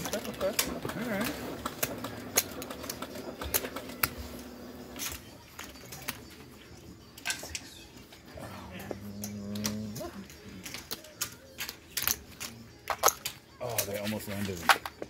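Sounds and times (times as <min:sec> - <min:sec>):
casino chips clacking: 0:00.0 - 0:08.2, 0:08.9 - 0:15.0.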